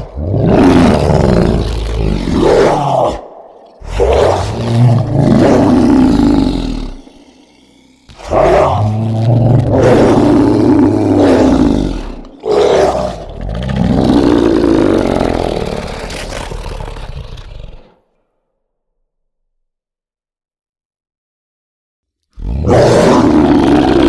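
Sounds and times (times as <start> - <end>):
deep monster roars: 0.0 - 18.0, 22.4 - 24.0.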